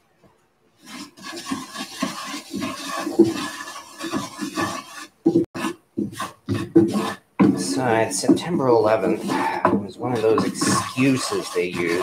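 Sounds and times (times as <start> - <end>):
wooden spatula scraping skillet: 0.7 - 12.0.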